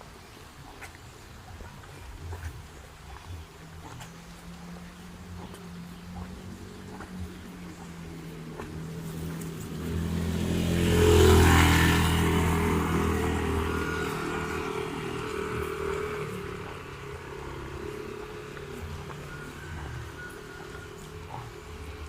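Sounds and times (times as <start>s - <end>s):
vehicle driving past: 1.6s - 22.0s.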